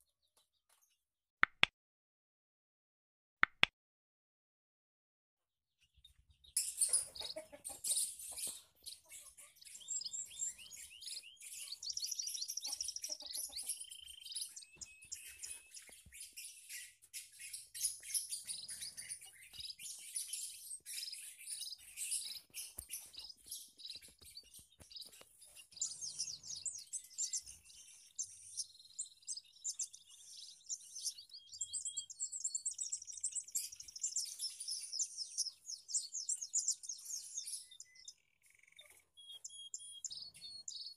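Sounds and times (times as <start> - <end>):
finches chirping and twittering: 5.8 - 40.9.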